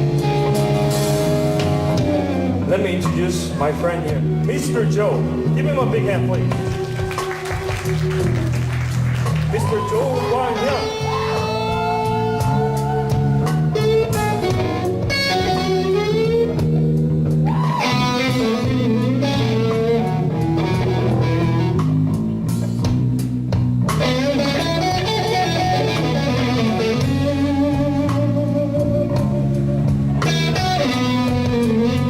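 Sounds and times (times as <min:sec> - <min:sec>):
backing band: 0:00.0 - 0:32.0
bass guitar: 0:00.0 - 0:32.0
electric guitar blues lead: 0:00.0 - 0:32.0.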